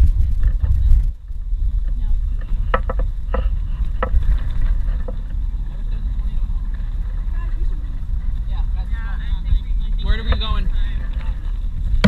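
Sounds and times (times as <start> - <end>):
loud low rumbling: 0.0 - 12.0.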